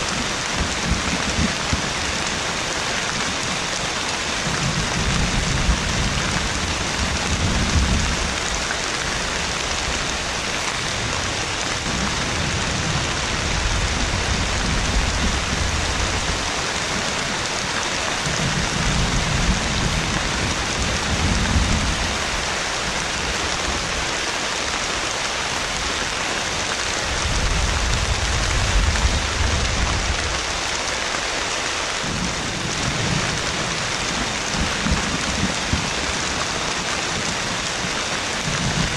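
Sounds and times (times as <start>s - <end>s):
heavy rain: 0.0s - 38.9s
thunder rumbling: 0.1s - 24.0s, 27.0s - 30.7s, 32.0s - 38.9s.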